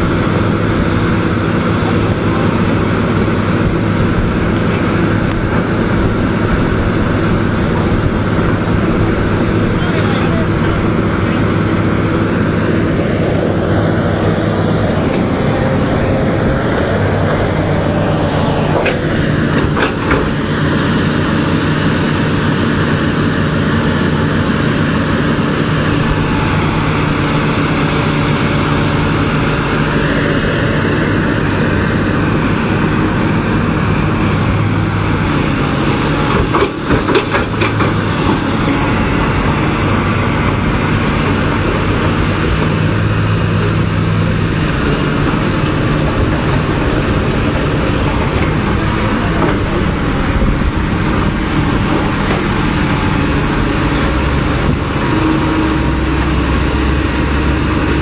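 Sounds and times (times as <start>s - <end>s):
excavator diesel engines droning: 0.0s - 58.0s.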